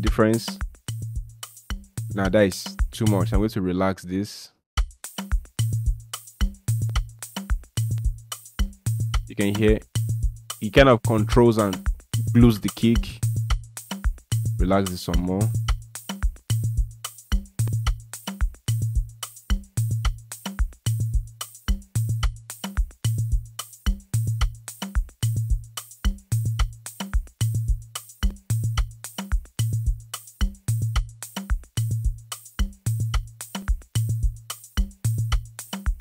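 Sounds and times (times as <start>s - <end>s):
shaker ticks: 4.8s - 36.0s.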